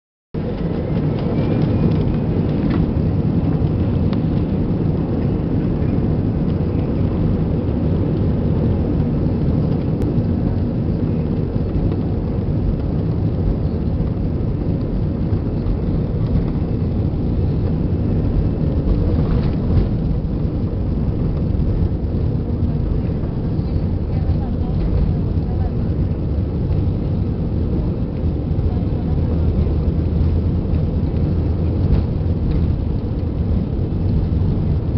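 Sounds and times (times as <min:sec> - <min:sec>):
jet engines rumbling in cabin: 0:00.4 - 0:34.9.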